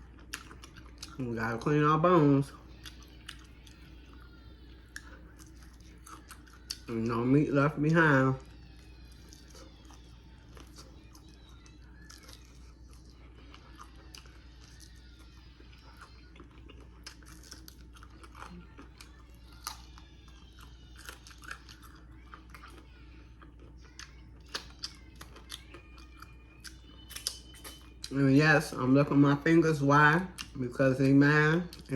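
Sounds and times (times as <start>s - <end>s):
chewing and biting: 0.0s - 1.7s, 2.4s - 7.2s, 8.4s - 28.2s, 30.3s - 30.6s.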